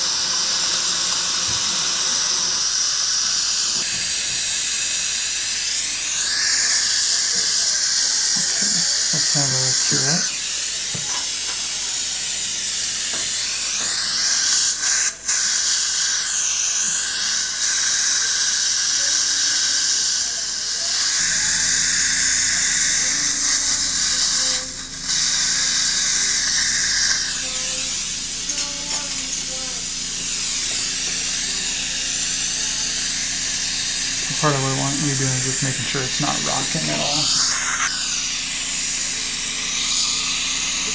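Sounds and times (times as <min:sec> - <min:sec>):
dental suction hissing: 0:00.0 - 0:40.9.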